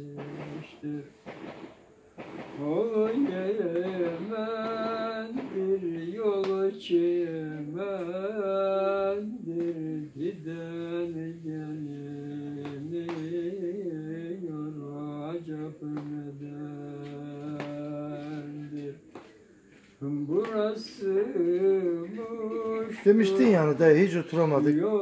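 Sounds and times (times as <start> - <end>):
man singing unaccompanied: 0.0 - 1.3, 2.4 - 19.3, 19.9 - 25.0.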